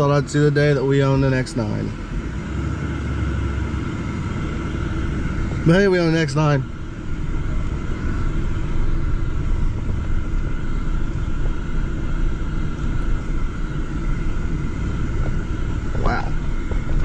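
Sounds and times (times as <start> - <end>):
faint steady whine: 0.0 - 17.0
truck rumbling: 0.0 - 17.0.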